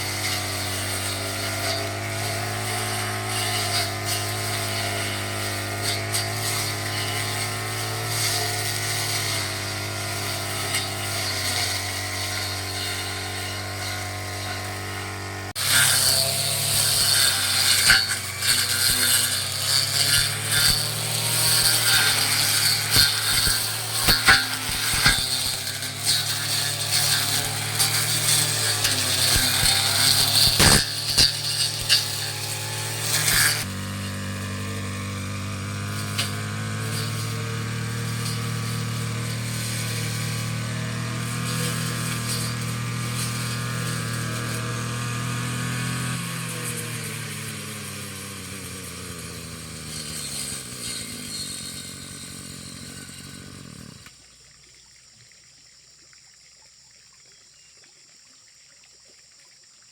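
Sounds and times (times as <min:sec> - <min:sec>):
brush cutter engine running: 0:00.0 - 0:54.2.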